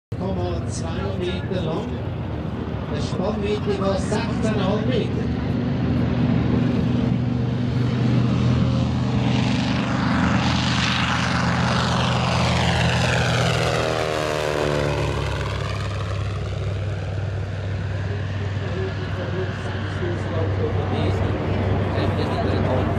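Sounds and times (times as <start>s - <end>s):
aircraft radial engine at full power: 0.1s - 22.9s.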